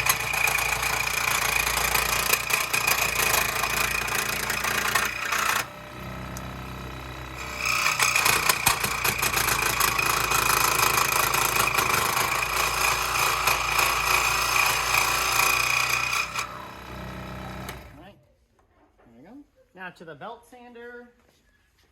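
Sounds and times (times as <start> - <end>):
saw blade cutting wood: 0.0 - 17.9
power saw motor humming: 0.0 - 18.0.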